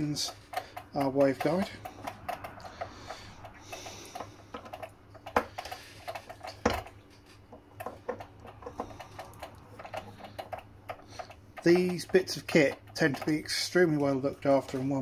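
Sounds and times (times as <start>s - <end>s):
screwdriver clicks and taps: 0.1s - 6.9s, 7.5s - 13.4s.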